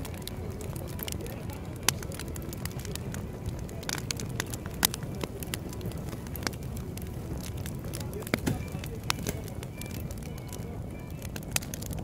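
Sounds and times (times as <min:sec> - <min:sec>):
campfire flames rushing: 0:00.0 - 0:12.0
fire crackling and popping: 0:00.0 - 0:12.0.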